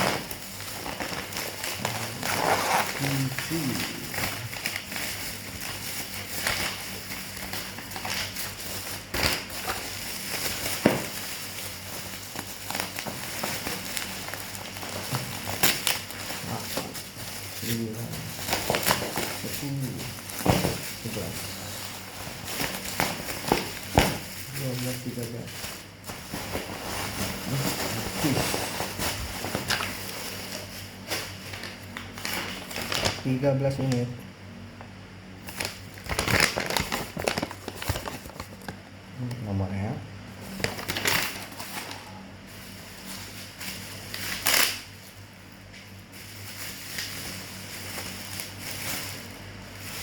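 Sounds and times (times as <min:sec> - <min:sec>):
plastic crinkling and rustling: 0:00.0 - 0:34.1, 0:35.4 - 0:39.6, 0:40.3 - 0:50.0
low background hum: 0:00.0 - 0:50.0.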